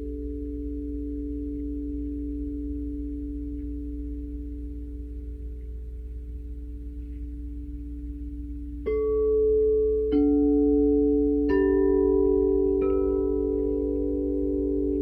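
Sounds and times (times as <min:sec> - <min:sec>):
crystal singing bowls ringing: 0:00.0 - 0:15.0.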